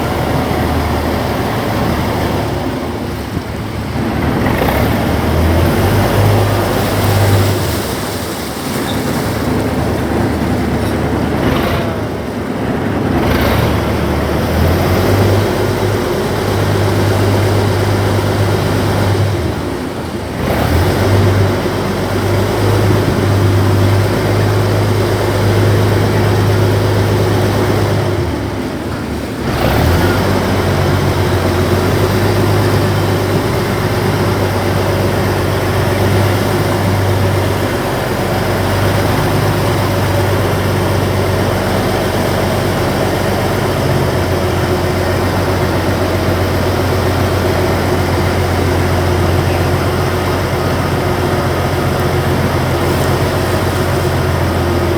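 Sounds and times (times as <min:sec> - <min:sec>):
ferry engine humming: 0:00.0 - 0:54.9.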